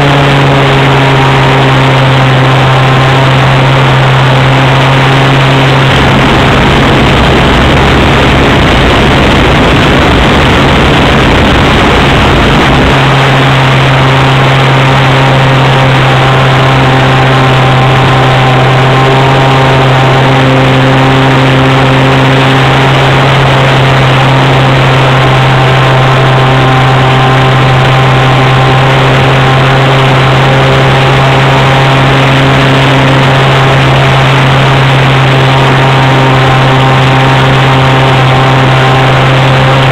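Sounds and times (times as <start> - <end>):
low rumble: 0.0 - 39.9
model plane engine running: 0.0 - 39.9
wind rush: 0.0 - 39.9.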